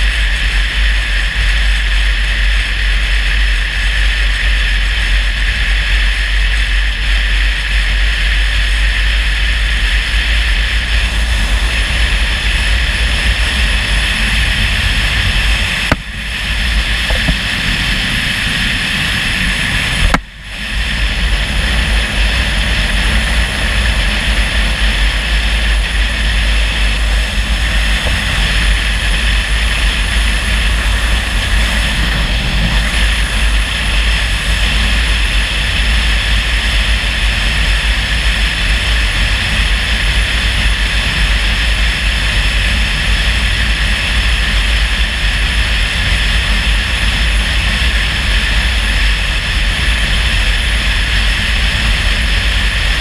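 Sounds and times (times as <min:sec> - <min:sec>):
car engine rumble: 0:00.0 - 0:53.0
road noise hiss: 0:00.0 - 0:53.0.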